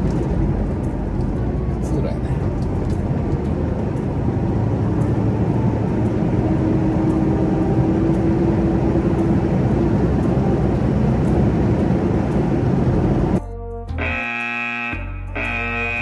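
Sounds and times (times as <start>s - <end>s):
vehicle low rumble: 0.0s - 16.0s.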